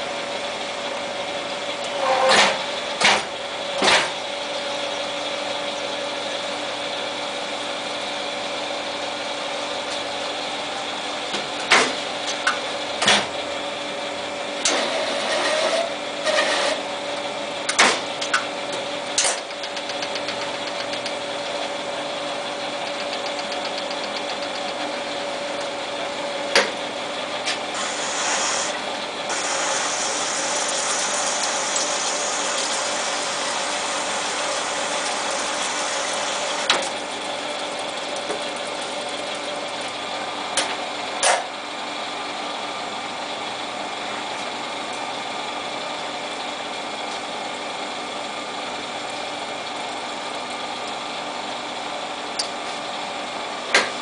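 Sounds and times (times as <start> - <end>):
lathe running with hum: 0.0 - 54.0.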